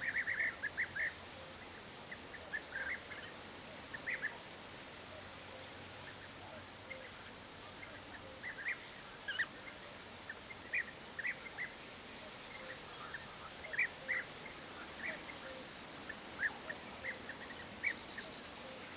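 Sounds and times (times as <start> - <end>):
steady background hiss: 0.0 - 18.9.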